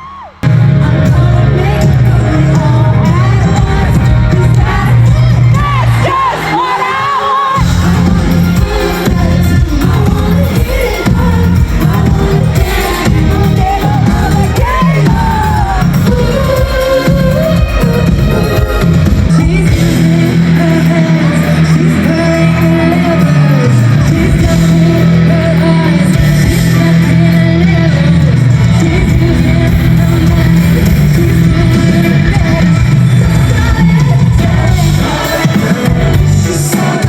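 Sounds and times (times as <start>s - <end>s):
bass: 0.0s - 6.7s, 7.6s - 37.0s
drums: 0.0s - 37.0s
guitar: 0.0s - 37.0s
person singing: 0.0s - 37.0s.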